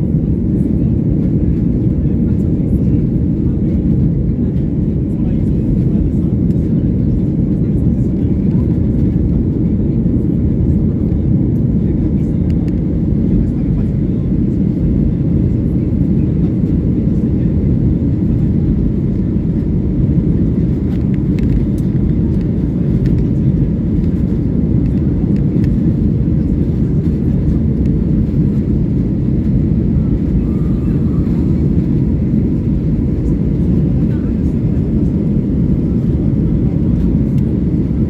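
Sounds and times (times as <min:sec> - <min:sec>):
jet engine rumble in cabin: 0:00.0 - 0:38.0.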